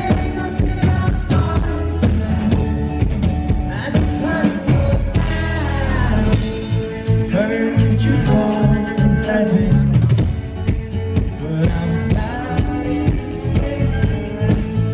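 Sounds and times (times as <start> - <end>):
man singing into microphone: 0.0 - 10.2, 11.2 - 14.9
drums: 0.0 - 14.9
guitar: 0.0 - 14.9.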